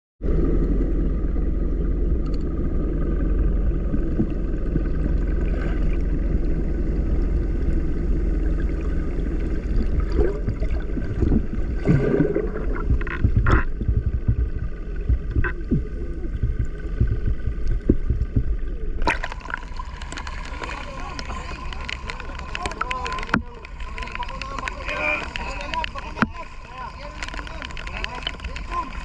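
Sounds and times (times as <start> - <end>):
low engine rumble: 0.2 - 29.0.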